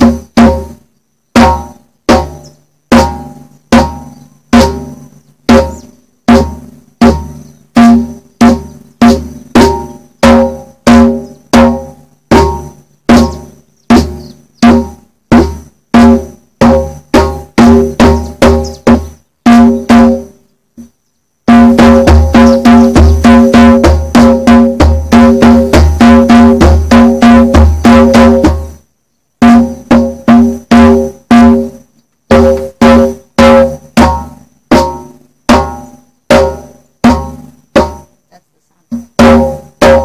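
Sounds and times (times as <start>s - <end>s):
conga drum slaps: 1.4s - 20.3s, 21.5s - 28.8s, 32.3s - 38.1s, 38.9s - 40.0s.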